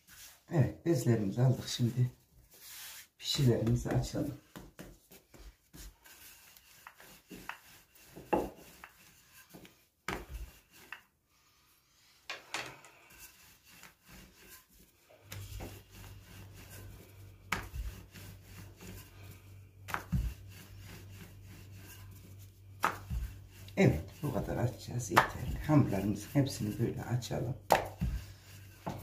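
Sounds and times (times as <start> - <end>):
rolling pin rolling dough: 1.2 - 29.0.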